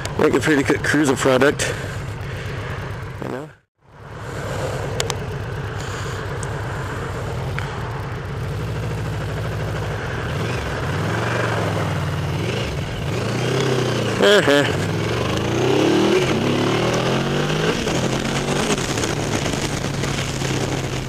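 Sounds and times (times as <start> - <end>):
engine running low drone: 0.0 - 21.0.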